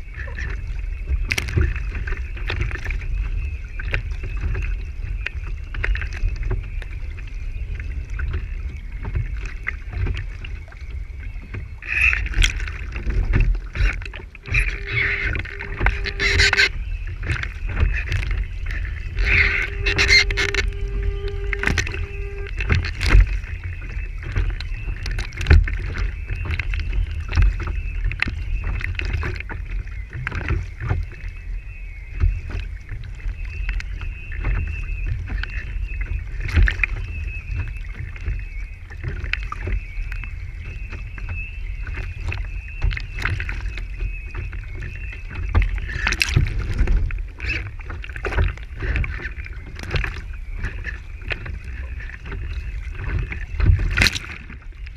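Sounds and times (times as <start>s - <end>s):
waves slapping against hull: 0.0s - 54.9s
wind rumble on microphone: 0.0s - 54.9s.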